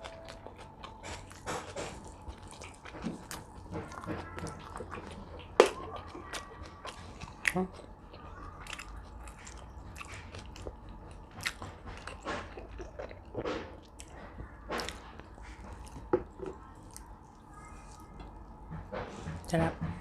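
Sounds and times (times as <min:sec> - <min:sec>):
person biting and chewing food: 0:00.0 - 0:17.1.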